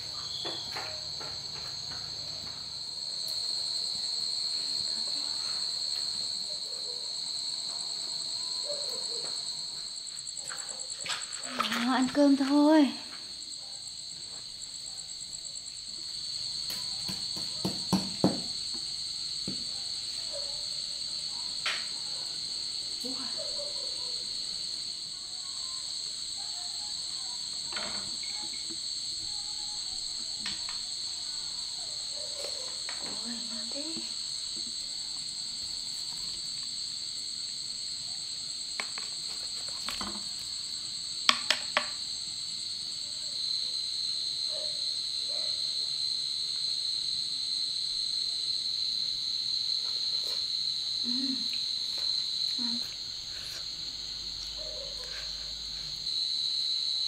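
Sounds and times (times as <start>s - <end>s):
shrill insect chorus: 0.0s - 57.0s.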